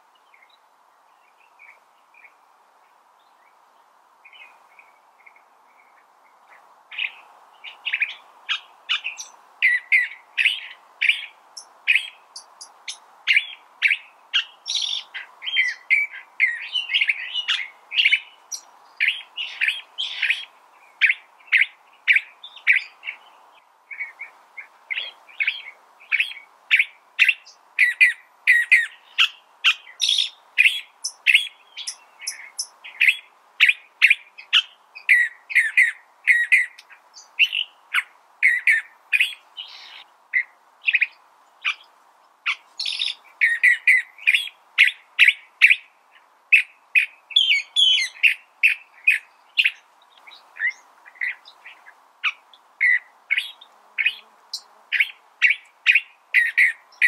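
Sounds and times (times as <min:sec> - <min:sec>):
bird singing varied notes: 0:04.2 - 0:41.9, 0:42.5 - 0:57.0.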